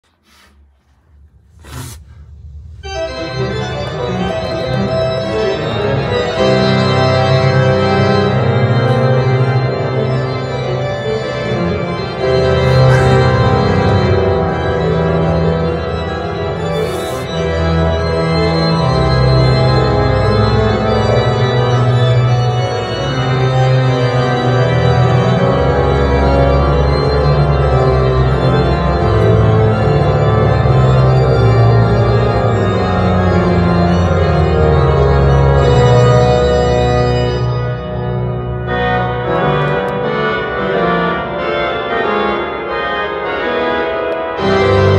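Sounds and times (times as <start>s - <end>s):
pipe organ chords: 2.2s - 44.9s.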